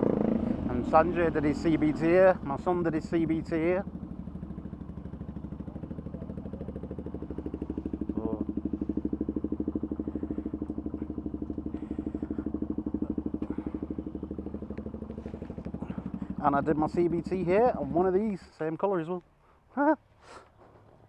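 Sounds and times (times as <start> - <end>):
motorcycle engine running steadily: 0.0 - 18.8.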